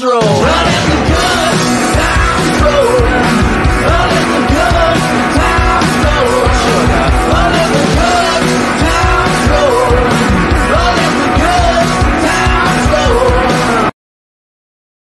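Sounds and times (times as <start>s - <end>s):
song with beat and vocals: 0.0s - 13.9s.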